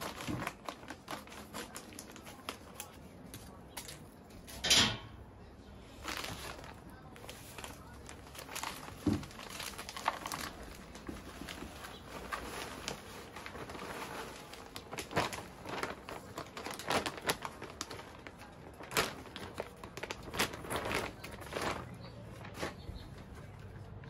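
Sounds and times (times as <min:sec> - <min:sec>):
plastic bag crinkling: 0:00.0 - 0:04.6, 0:06.0 - 0:23.8.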